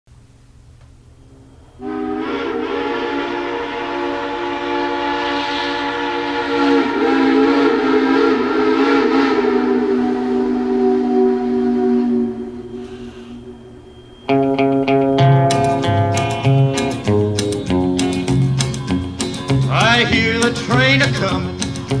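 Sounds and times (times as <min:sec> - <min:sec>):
steam train whistle chord: 0:01.2 - 0:22.0.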